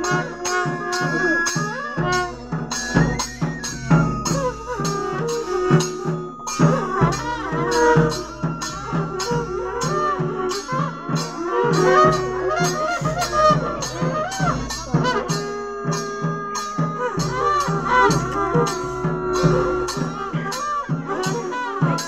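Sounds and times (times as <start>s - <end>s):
barrel drums beating: 0.0s - 22.0s
blaring brass horns: 0.0s - 22.0s.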